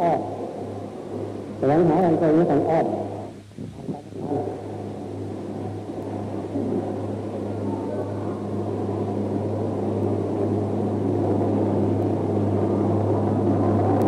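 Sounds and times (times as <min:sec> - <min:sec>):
low electrical hum: 0:00.0 - 0:14.0
rumbling drone: 0:00.0 - 0:14.0.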